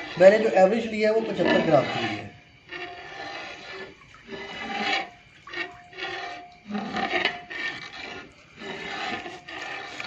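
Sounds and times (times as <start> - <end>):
milk splashing and sloshing: 1.3 - 10.0.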